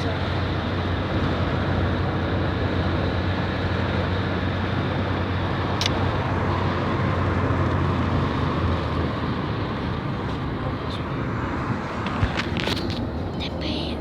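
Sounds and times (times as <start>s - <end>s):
car road noise: 0.0s - 14.0s.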